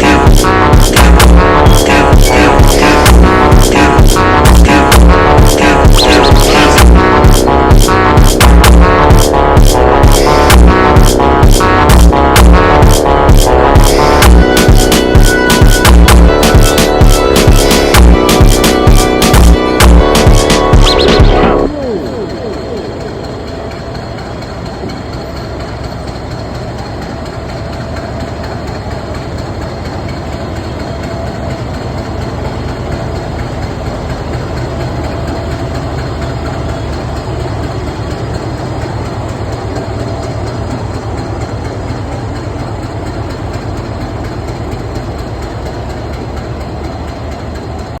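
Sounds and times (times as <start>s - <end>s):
diesel locomotive rumble: 0.0s - 48.0s
rail clatter: 0.0s - 48.0s.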